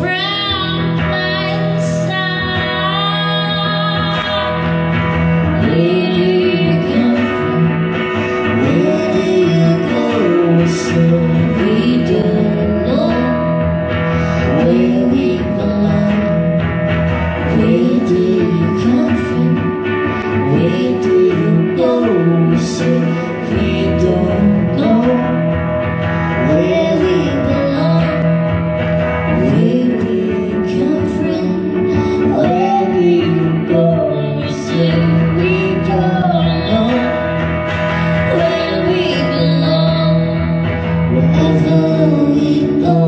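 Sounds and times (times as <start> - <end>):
guitar: 0.0 - 43.0
woman singing: 0.0 - 43.0.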